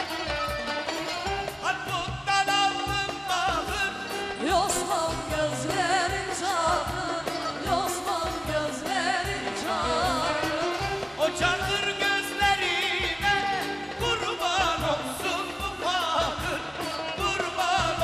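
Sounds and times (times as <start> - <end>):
percussion beat: 0.0 - 18.0
pop song with singing voice: 0.0 - 18.0.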